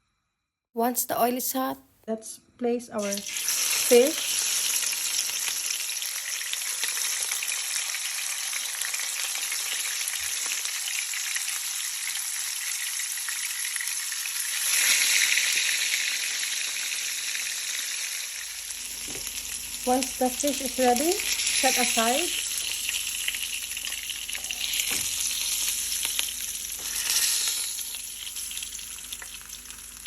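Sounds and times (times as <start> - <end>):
fish sizzling in hot oil: 3.0 - 30.0.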